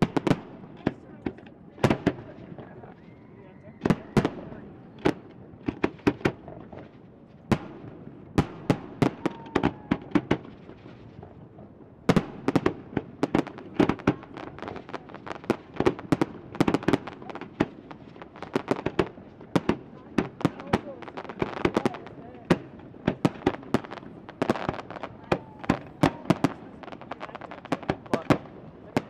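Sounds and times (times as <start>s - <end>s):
fireworks bursting in sharp bangs: 0.0s - 3.1s, 3.8s - 29.0s.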